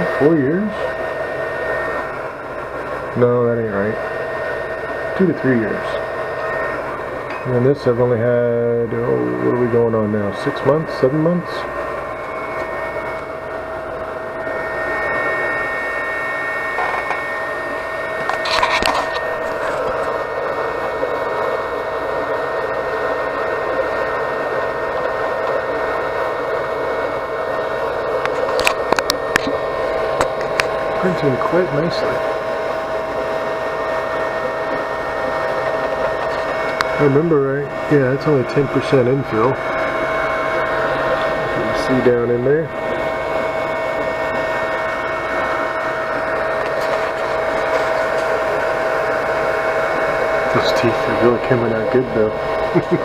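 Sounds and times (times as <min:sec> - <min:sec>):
printer cooling fans whirring: 0:00.0 - 0:53.0.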